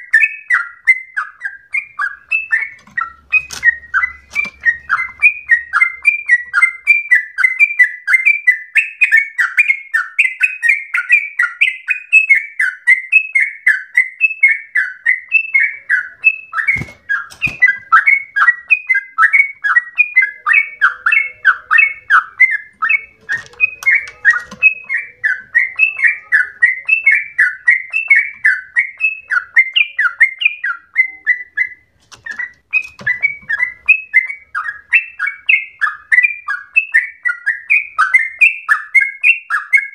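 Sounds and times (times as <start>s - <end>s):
bulbul singing bubbling whistles: 0.0s - 39.9s.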